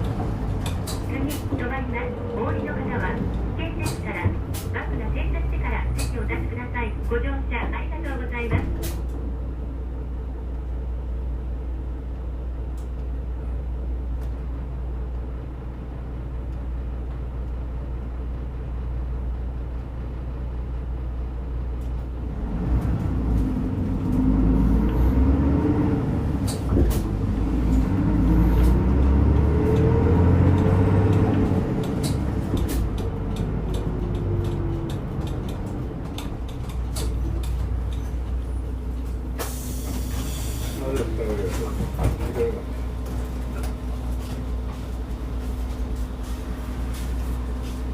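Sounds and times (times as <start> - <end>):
bus engine idling and revving: 0.0 - 47.9.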